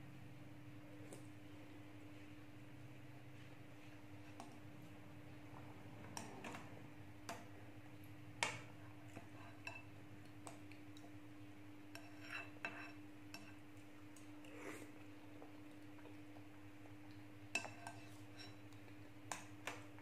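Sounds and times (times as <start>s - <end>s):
soft eating sound: 0.6s - 20.0s.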